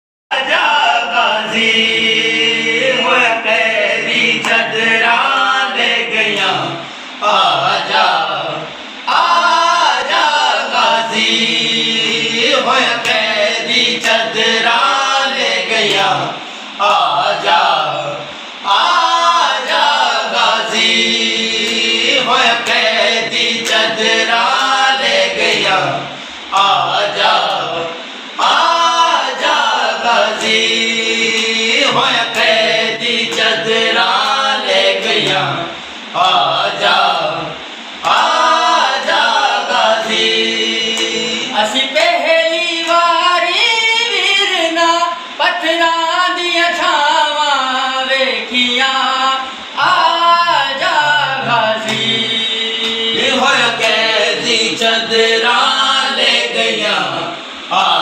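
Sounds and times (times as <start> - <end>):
man singing unaccompanied chant: 0.3 - 58.0.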